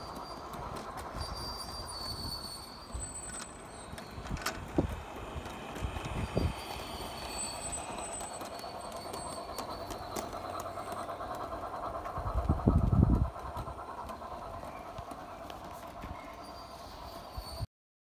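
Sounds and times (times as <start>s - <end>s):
model train drive whirring: 0.0s - 17.7s
wheels clicking over rail joints: 0.0s - 17.7s.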